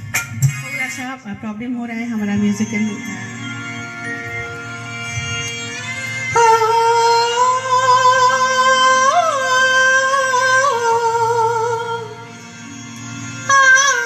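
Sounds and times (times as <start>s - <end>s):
melodic backing track: 0.0s - 14.0s.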